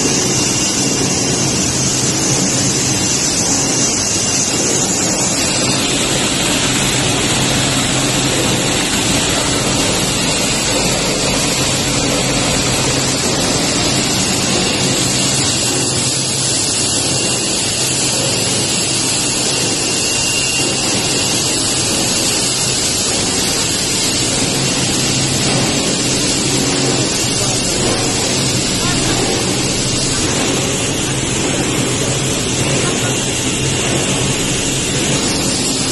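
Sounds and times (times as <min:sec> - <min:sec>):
recycling machinery running: 0:00.0 - 0:35.9.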